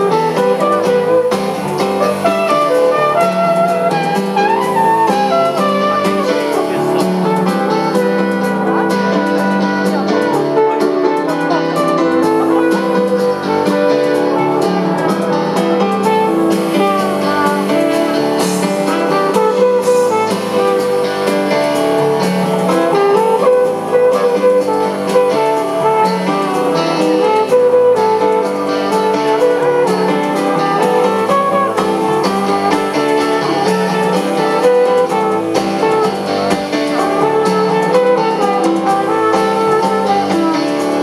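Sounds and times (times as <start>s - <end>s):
drums: 0.0s - 41.0s
guitar: 0.0s - 41.0s
keyboard: 0.0s - 41.0s.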